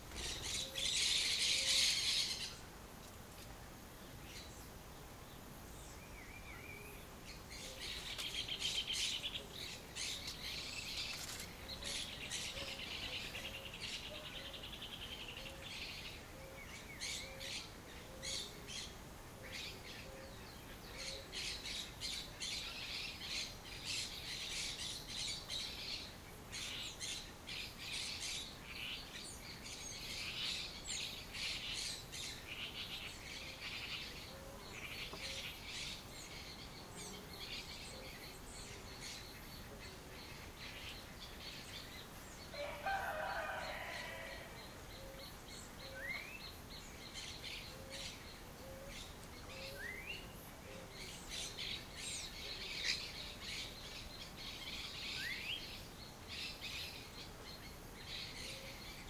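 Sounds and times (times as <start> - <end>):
birds chirping and calling: 0.0 - 2.7, 6.0 - 59.0.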